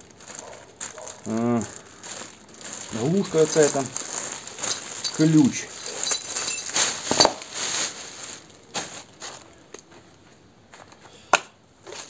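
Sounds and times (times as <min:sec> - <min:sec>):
plastic bag rustling and crinkling: 0:00.0 - 0:10.0.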